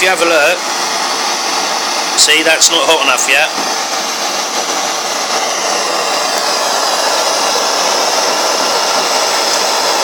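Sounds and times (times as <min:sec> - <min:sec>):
blowtorch flame hissing: 0:00.0 - 0:10.0.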